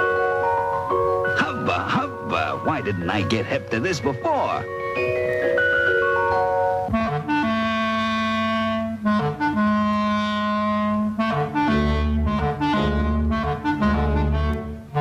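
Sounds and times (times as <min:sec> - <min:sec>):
orchestral bass line: 0:00.0 - 0:15.0
woodwind piping melody: 0:00.0 - 0:15.0.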